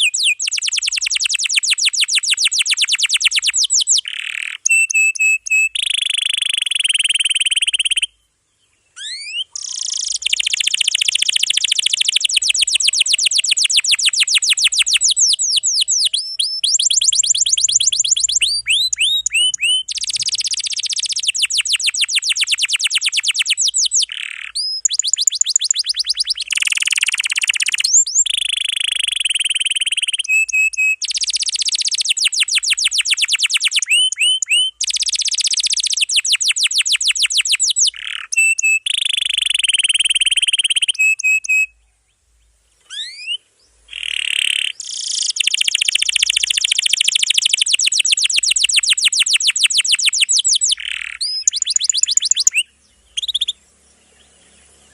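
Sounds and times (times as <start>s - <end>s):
canary singing trills: 0.0s - 41.9s, 42.8s - 54.9s.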